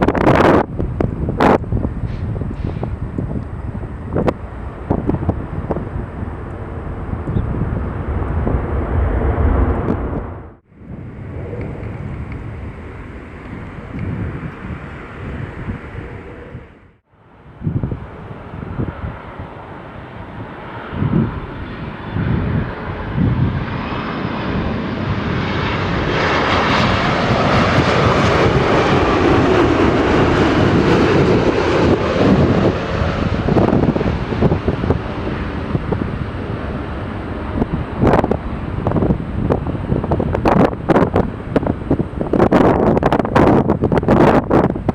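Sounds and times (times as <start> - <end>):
jet airliner passing on landing: 0.0 - 44.9.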